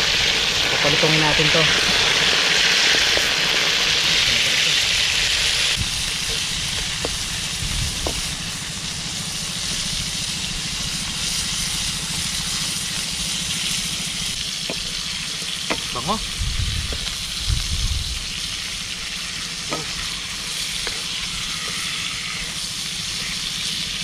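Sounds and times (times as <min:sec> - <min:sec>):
prawns sizzling in oil: 0:00.0 - 0:24.0.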